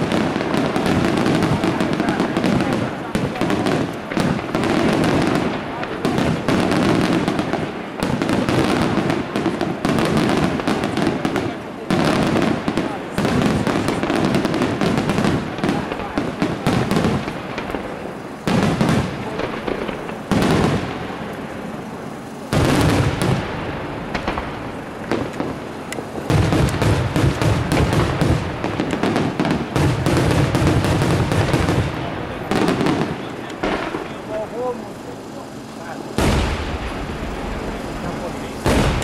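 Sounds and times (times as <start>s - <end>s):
firework booms: 0.0s - 39.0s
firework crackling: 0.0s - 39.0s.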